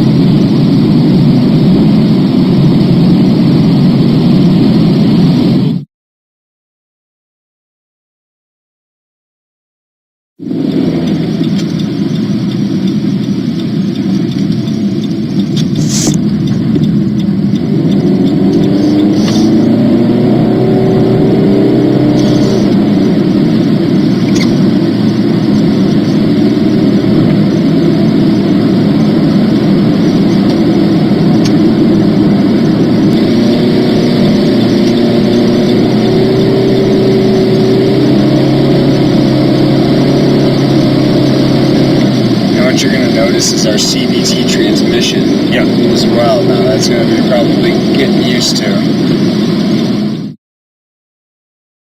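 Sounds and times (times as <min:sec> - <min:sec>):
car cabin road and engine drone: 0:00.0 - 0:05.8, 0:10.4 - 0:50.4.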